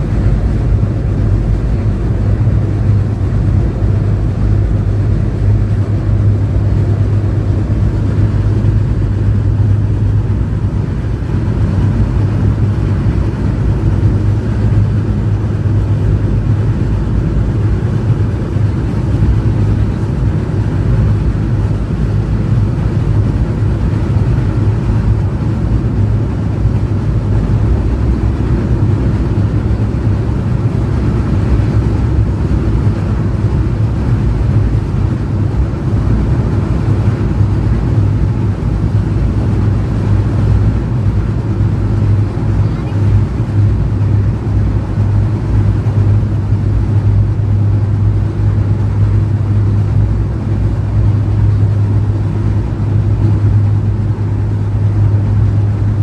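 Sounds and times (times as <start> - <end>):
passenger train rumbling on track: 0.0 - 56.0.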